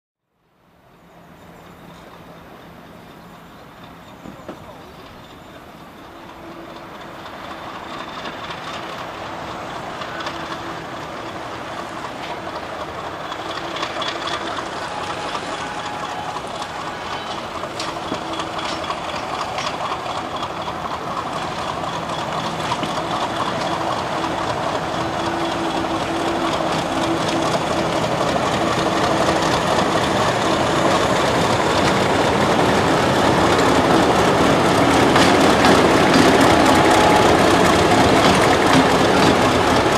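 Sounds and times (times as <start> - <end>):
diesel locomotive engine approaching: 0.3 - 39.9.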